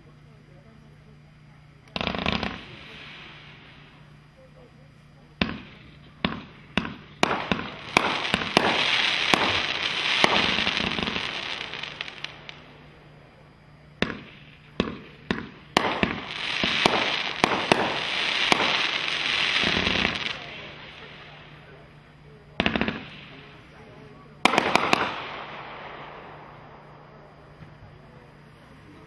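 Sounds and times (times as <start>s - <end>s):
firework crackling: 0.0s - 29.0s
firework launch reports: 0.0s - 29.0s.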